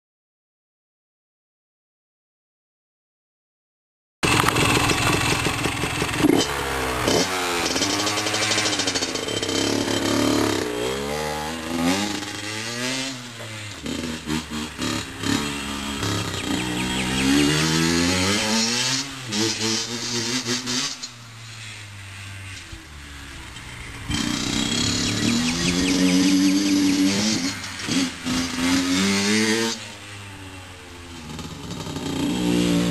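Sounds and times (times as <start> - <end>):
dirt bike engine revving: 4.2 - 32.9.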